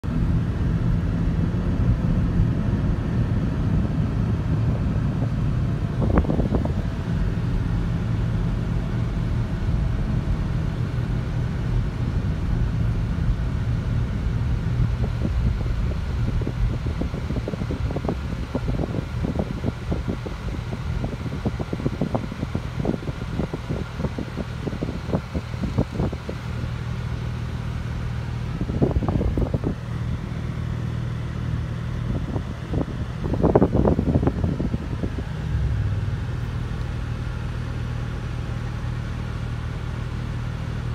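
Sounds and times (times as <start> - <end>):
car road noise rumble: 0.0 - 40.9.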